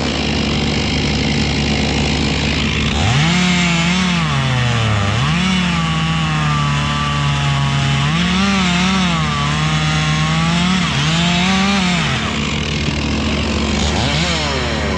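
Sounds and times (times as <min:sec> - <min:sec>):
chainsaw running hard: 0:00.0 - 0:14.9.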